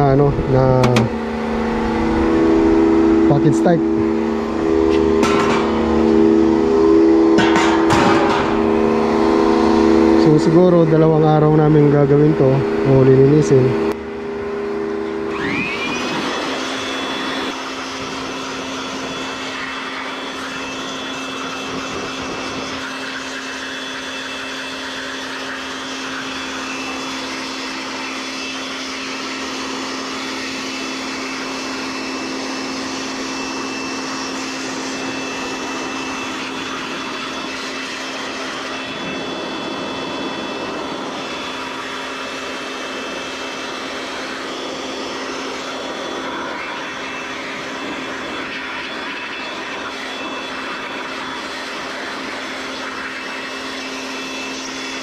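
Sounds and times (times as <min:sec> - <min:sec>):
electric air blower whining: 0:00.0 - 0:55.0.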